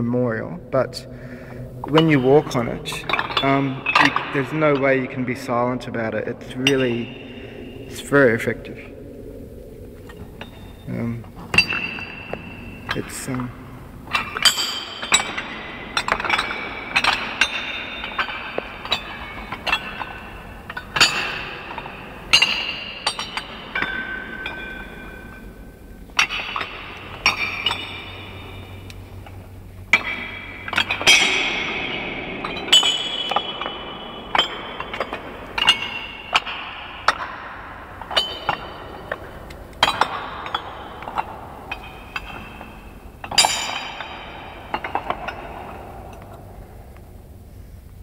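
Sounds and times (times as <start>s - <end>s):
metal plates clanking and ringing: 0.0s - 9.0s, 10.0s - 47.5s.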